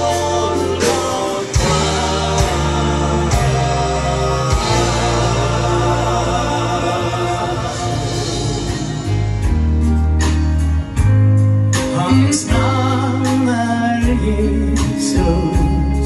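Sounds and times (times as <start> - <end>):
gospel band playing: 0.0 - 16.0.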